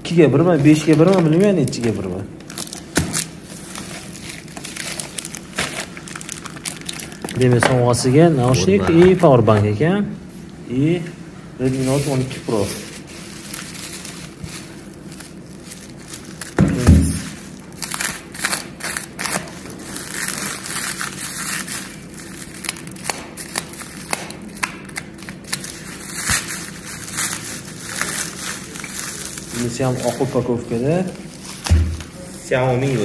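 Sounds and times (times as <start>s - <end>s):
bubble wrap crackling: 0.0s - 9.2s, 11.6s - 33.0s.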